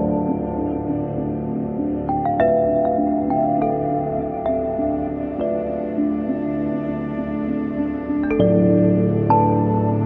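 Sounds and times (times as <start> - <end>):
ambient music: 0.0 - 10.0.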